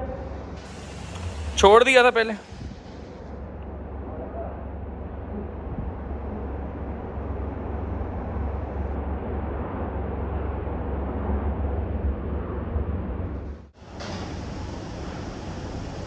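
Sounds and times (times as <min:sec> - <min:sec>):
steady rumbling with hiss: 0:00.0 - 0:16.0.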